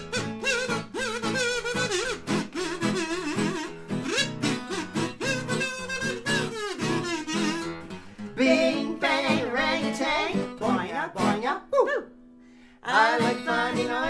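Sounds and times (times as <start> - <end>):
kazoo playing a melody: 0.0 - 11.4, 13.1 - 14.0
acoustic guitar: 0.0 - 14.0.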